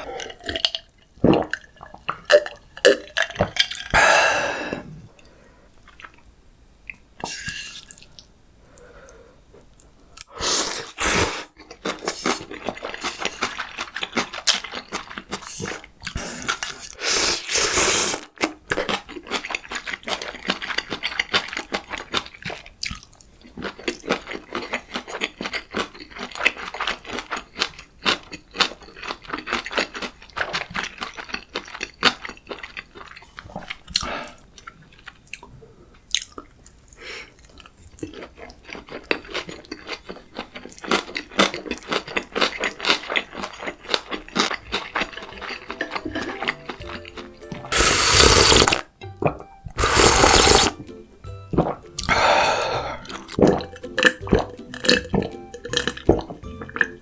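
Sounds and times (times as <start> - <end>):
person chewing food: 0.0 - 6.2, 6.9 - 57.0.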